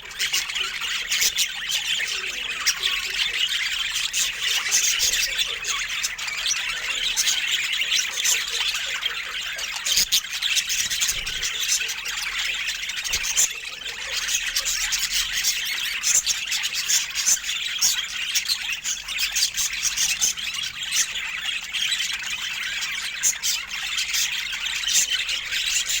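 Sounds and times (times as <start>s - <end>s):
budgerigar chatter: 0.0s - 26.0s.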